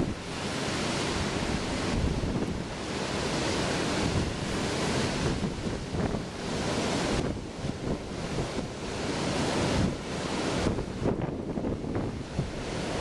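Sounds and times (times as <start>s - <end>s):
storm surf breaking: 0.0s - 13.0s
wind buffeting microphone: 0.0s - 13.0s.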